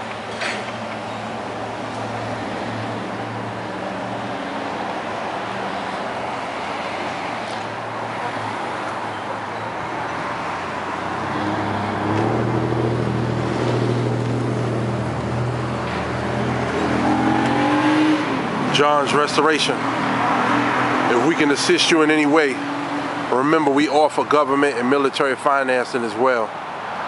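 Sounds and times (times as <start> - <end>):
car engine humming: 0.0 - 23.4
road noise: 0.0 - 27.0.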